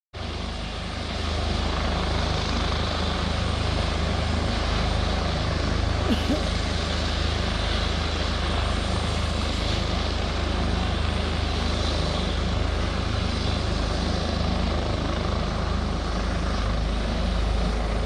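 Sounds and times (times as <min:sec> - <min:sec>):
helicopter rotor and engine drone: 0:00.2 - 0:18.0.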